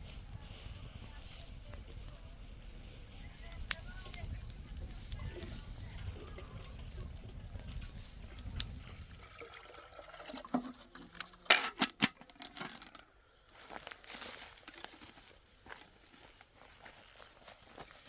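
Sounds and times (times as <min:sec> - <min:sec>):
straw crackling and rustling: 0:00.0 - 0:18.0.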